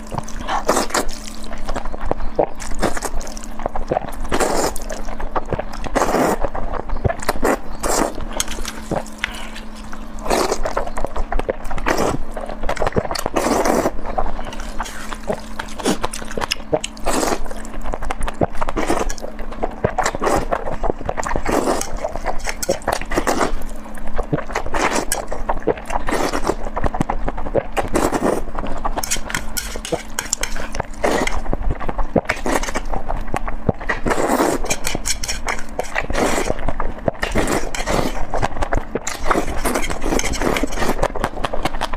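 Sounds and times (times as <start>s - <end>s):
faint steady hum: 0.0s - 41.9s
wet chewing and crunching: 0.0s - 41.9s.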